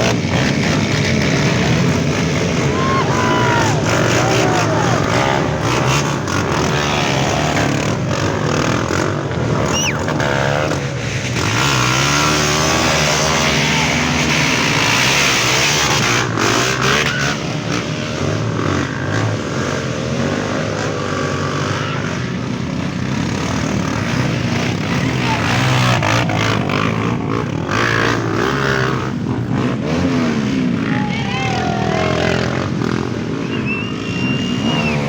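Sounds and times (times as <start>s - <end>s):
dirt bikes revving: 0.0s - 35.0s.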